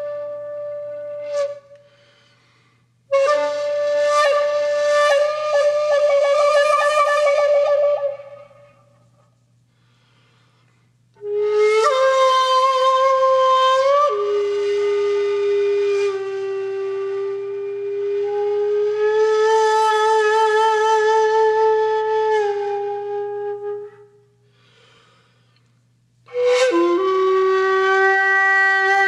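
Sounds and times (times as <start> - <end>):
solo flute long notes: 0.0 - 2.4, 3.1 - 9.3, 11.2 - 25.0, 26.2 - 29.0.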